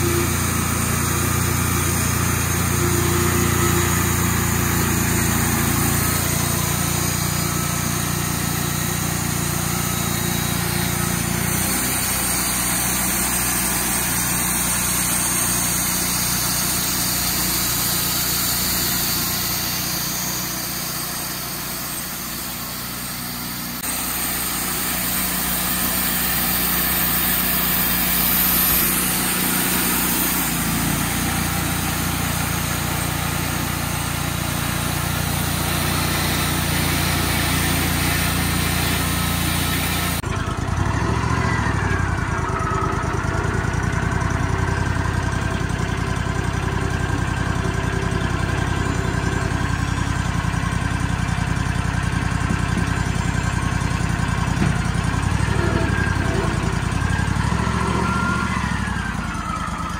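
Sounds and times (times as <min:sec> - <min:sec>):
engine droning: 0:00.0 - 0:59.9
sawmill band saw cutting log: 0:00.0 - 0:59.9.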